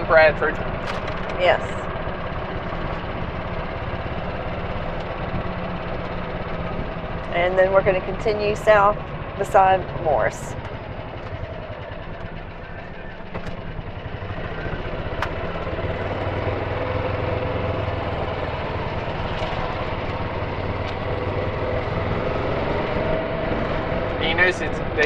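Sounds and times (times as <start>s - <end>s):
golf cart humming and rolling: 0.0s - 25.0s.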